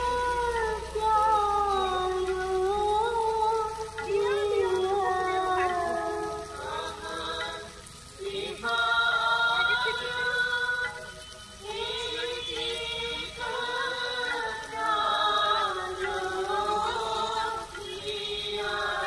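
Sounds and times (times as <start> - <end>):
background music with sung vocals: 0.0 - 19.0.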